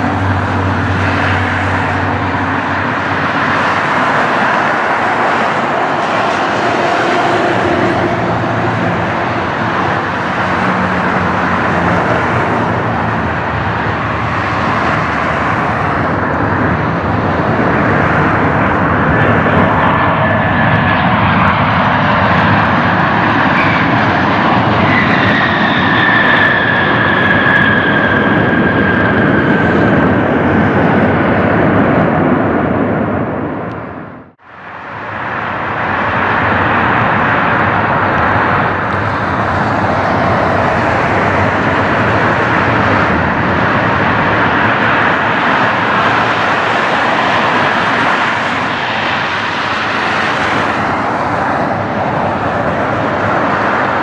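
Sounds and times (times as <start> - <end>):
high engine whine: 0.0 - 54.0
jet engines roaring: 0.0 - 54.0.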